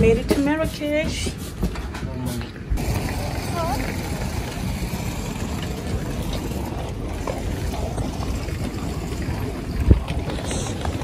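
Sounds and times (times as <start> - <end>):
low rumbling of station platform: 1.9 - 11.0.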